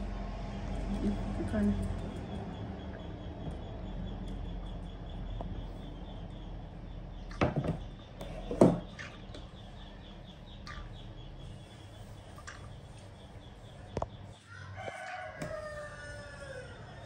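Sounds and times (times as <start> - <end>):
faint birds chirping: 0.0 - 17.0
low room hum: 0.0 - 17.0.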